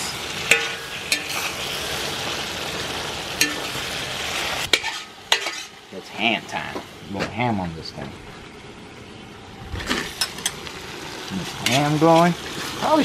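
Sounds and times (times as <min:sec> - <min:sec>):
meat sizzling in a pan: 0:00.0 - 0:07.0, 0:09.4 - 0:13.0.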